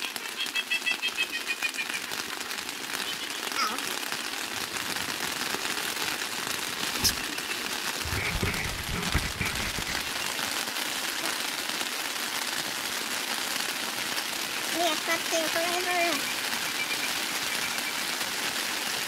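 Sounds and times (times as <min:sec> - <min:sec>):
rain pattering on tent: 0:00.0 - 0:19.0.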